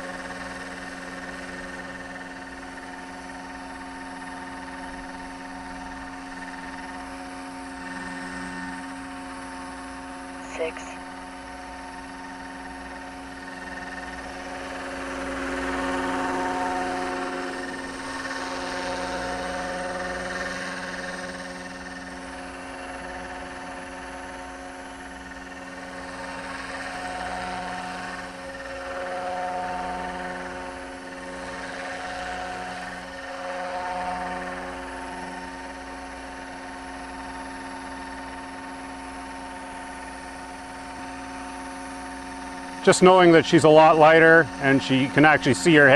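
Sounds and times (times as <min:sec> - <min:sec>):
model helicopter hovering: 0:00.0 - 0:45.9.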